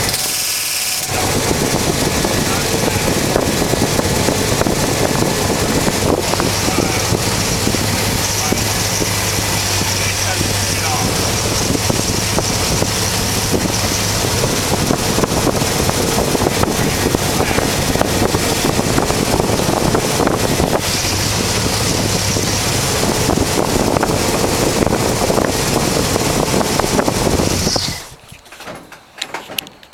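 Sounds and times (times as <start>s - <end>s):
truck engine and road noise: 0.0s - 29.9s
wind rushing over microphone: 1.0s - 28.3s.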